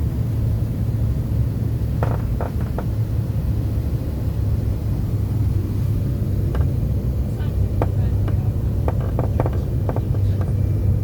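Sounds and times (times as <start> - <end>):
airliner engine and airflow rumble: 0.0 - 11.0.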